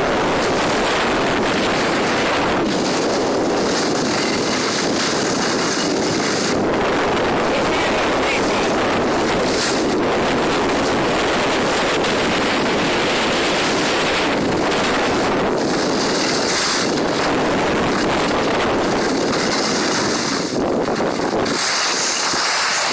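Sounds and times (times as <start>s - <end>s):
skis sliding over snow: 0.0s - 22.9s
wind rushing over microphone: 0.0s - 22.9s.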